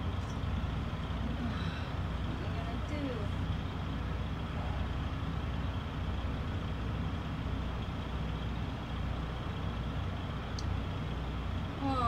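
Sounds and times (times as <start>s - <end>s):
engine idling rumble: 0.0s - 12.0s.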